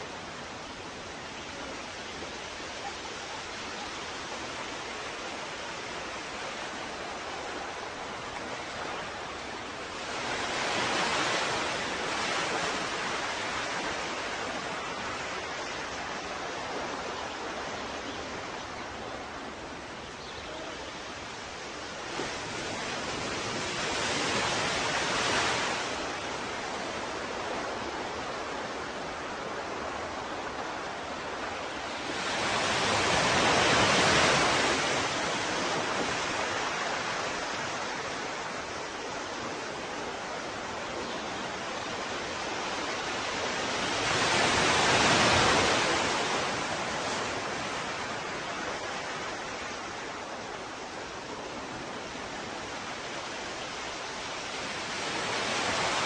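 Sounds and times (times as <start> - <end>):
waves breaking: 0.0 - 56.0.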